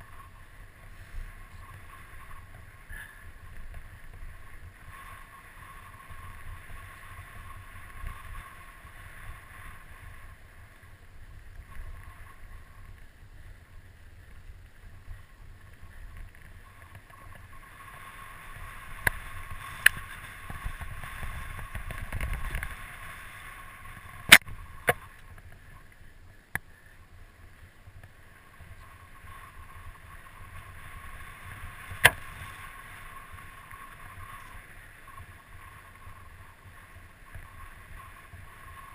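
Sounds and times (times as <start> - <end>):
bike tyres rumbling on gravel: 0.0 - 38.9.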